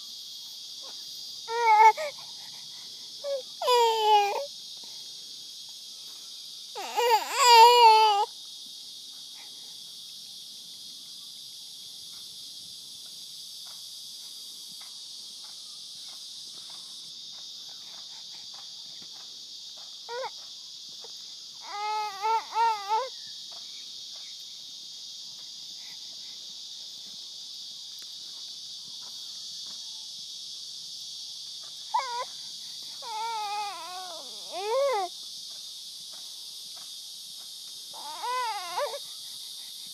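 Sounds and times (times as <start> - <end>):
insect chorus: 0.0 - 39.9
wavering insect calls: 0.0 - 39.9.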